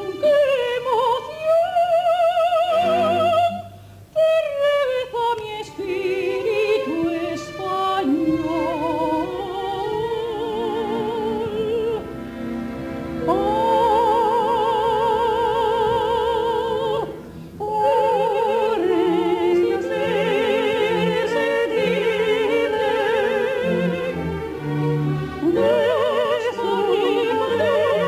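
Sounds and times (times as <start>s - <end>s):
operatic soprano singing: 0.0s - 12.3s, 13.2s - 28.0s
orchestra: 0.0s - 28.0s.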